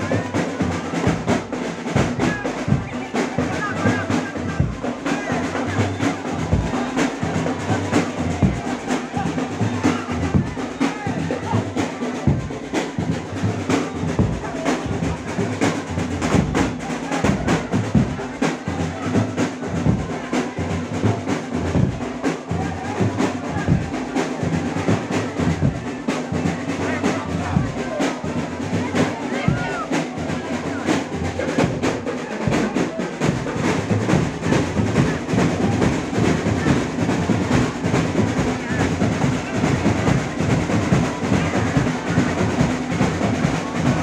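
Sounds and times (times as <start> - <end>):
fast drumming: 0.0 - 44.0.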